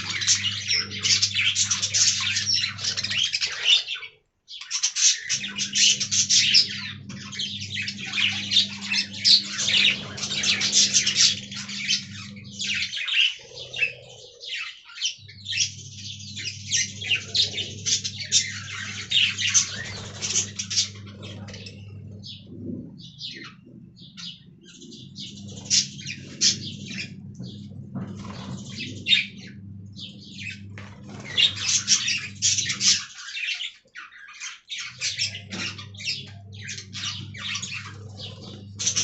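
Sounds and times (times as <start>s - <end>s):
steady low hum: 0.0s - 3.7s, 5.2s - 33.3s, 34.8s - 39.0s
budgerigars chattering: 0.0s - 39.0s.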